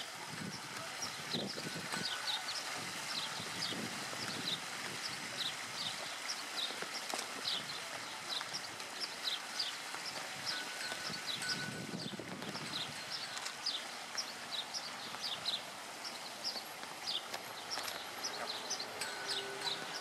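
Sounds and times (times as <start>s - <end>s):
bird chirping: 1.0s - 20.0s.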